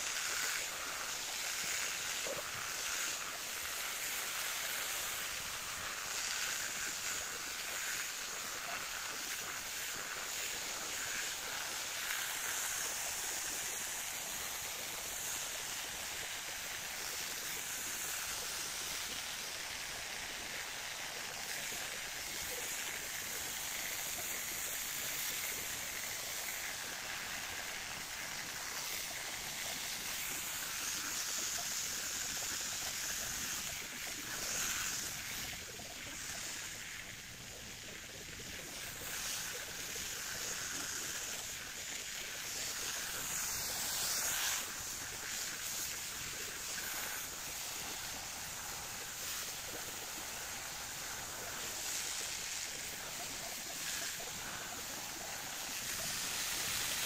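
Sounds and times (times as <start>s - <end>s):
electric hedge trimmer running: 0.0s - 57.0s.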